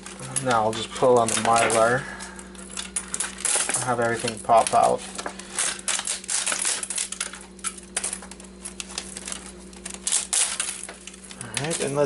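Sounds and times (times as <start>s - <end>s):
membrane crinkling: 0.0s - 12.0s.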